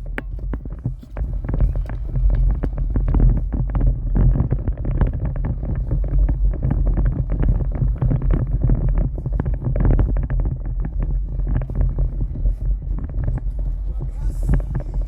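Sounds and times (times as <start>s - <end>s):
dense irregular crackle: 0.0s - 15.0s
wind buffeting microphone: 0.0s - 15.0s.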